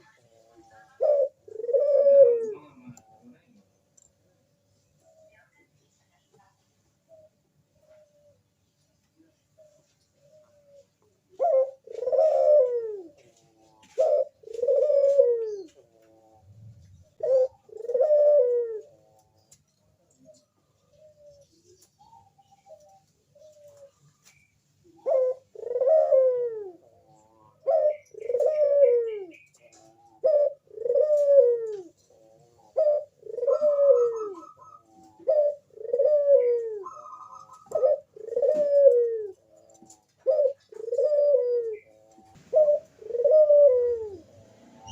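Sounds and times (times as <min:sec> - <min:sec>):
dove cooing: 0:00.0 - 0:03.6, 0:07.1 - 0:08.5, 0:09.2 - 0:44.9.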